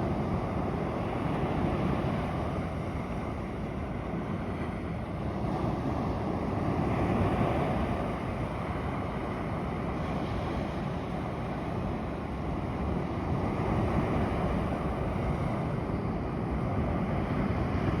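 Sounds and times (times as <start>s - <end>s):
waves breaking on beach: 0.0s - 18.0s.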